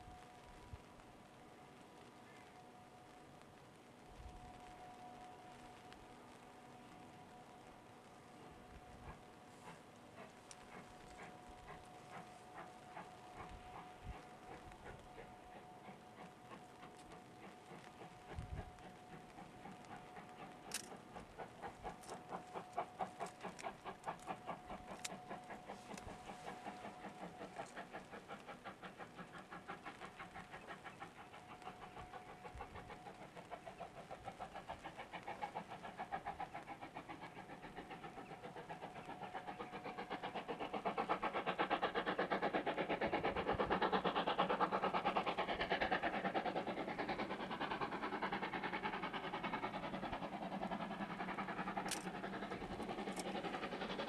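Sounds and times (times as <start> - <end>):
steam locomotive chuffing: 4.4 - 54.0.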